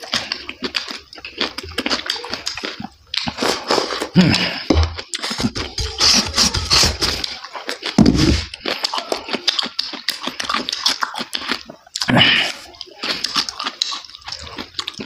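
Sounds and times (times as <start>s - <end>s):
man chewing crunchy food: 0.0s - 15.0s.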